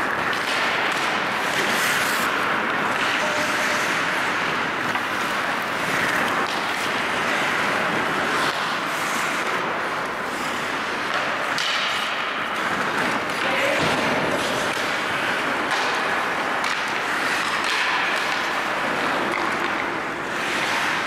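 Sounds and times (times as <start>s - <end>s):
skate blades scraping ice: 0.0s - 21.0s
steady ice rink hiss: 0.0s - 21.0s.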